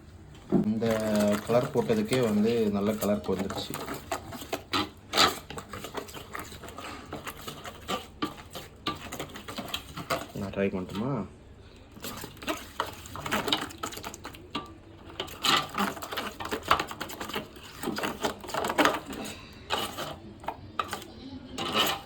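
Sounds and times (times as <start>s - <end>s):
spoon stirring in a bowl: 0.1s - 22.0s.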